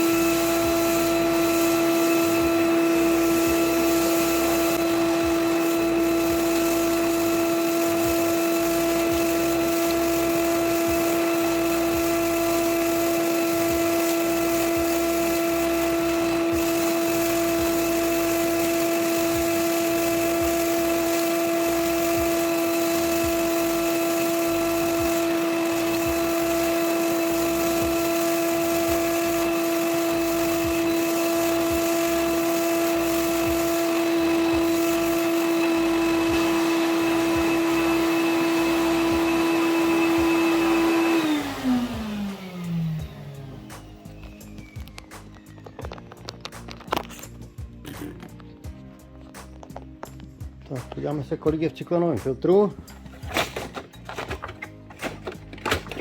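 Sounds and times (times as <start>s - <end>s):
vacuum cleaner running: 0.0s - 47.7s, 52.6s - 56.0s.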